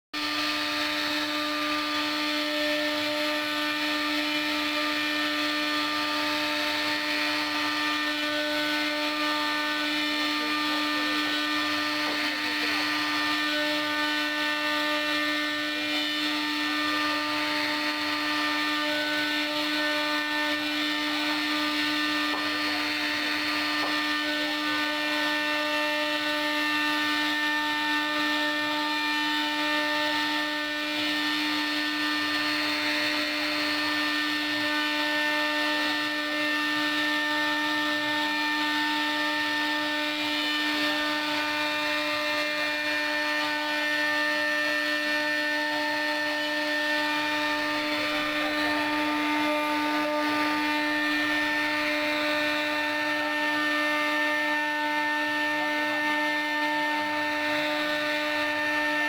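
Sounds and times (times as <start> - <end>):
bit carving wood: 0.2 - 59.0
router spindle whining: 0.2 - 59.0.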